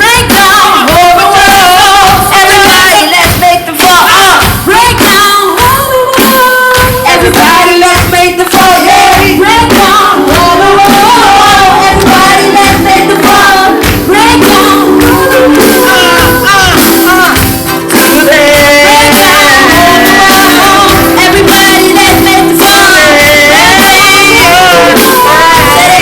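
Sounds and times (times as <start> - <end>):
female voices singing: 0.0 - 26.0
steady drum beat: 0.0 - 26.0.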